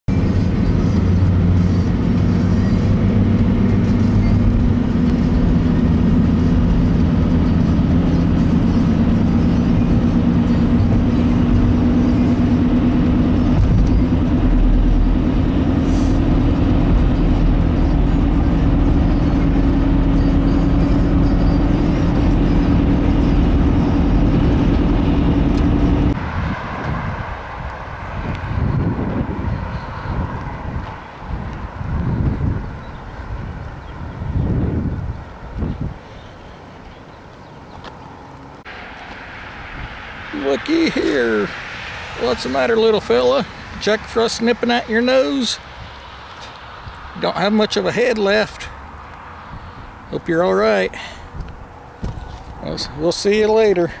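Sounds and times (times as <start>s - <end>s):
car engine drone: 0.1s - 54.0s
tyre and road noise: 0.1s - 54.0s.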